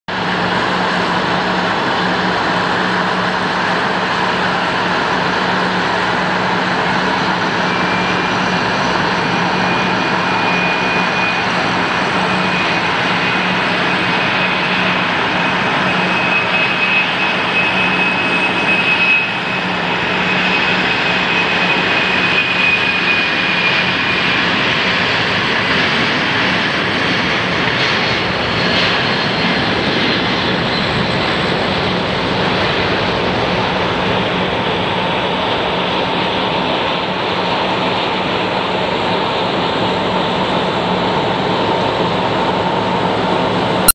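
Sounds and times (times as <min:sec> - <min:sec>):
high whine: 0:00.1 - 0:43.9
jet engines at takeoff power: 0:00.1 - 0:43.9.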